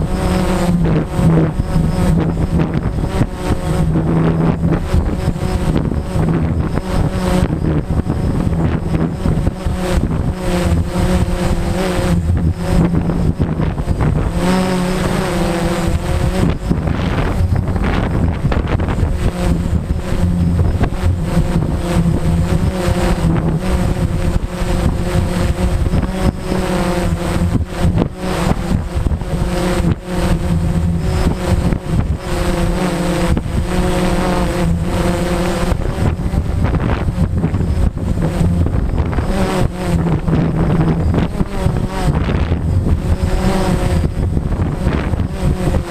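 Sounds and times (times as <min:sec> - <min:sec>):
drone propellers humming: 0:00.0 - 0:45.9
wind buffeting on microphone: 0:00.0 - 0:45.9.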